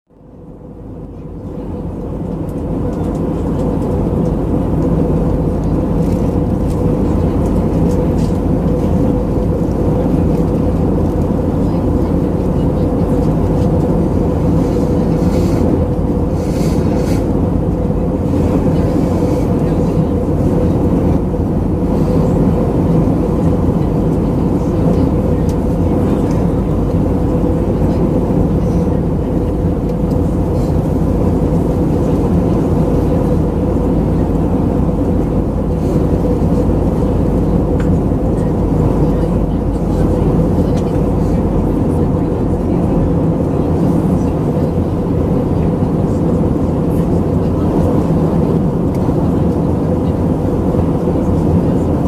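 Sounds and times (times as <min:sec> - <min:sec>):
airplane cabin engine drone: 0:00.1 - 0:52.0
steady hum tone: 0:00.2 - 0:52.0.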